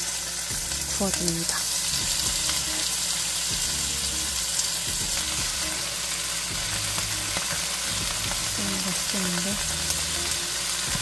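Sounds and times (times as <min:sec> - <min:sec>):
skewers sizzling in hot oil: 0:00.0 - 0:11.0.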